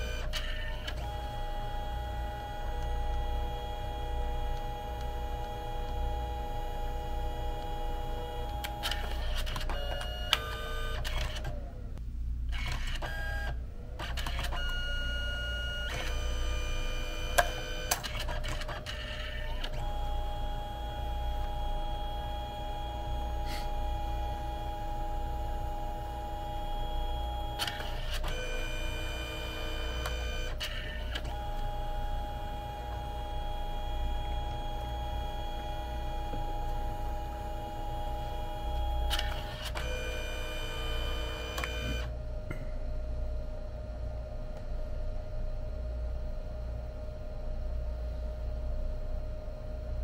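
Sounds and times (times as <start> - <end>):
photo printer motor whine: 0.0 - 11.8, 12.6 - 42.2.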